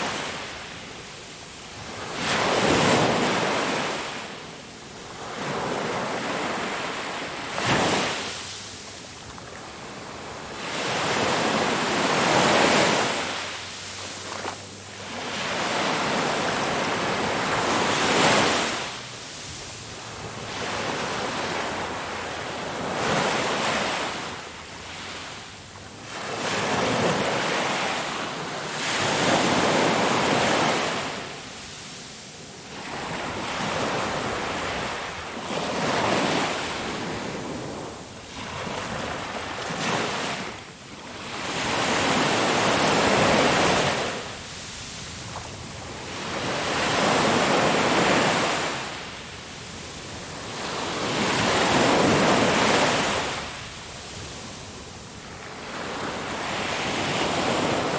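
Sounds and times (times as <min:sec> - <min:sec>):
ocean waves breaking: 0:00.0 - 0:57.9.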